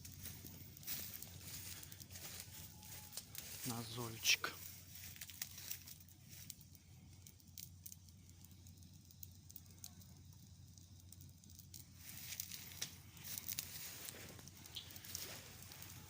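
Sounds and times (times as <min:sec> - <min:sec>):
bonfire crackling and popping: 0:00.0 - 0:16.0
soft fire hiss: 0:00.0 - 0:16.0.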